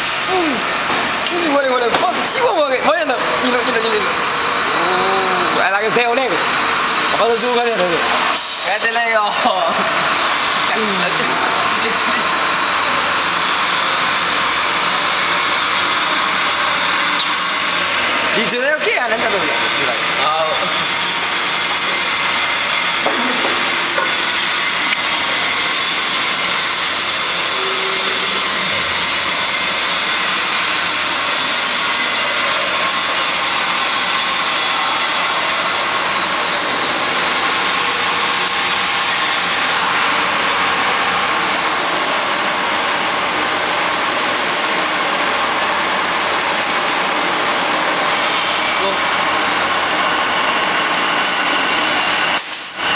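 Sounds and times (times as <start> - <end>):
machinery hissing: 0.0 - 52.9.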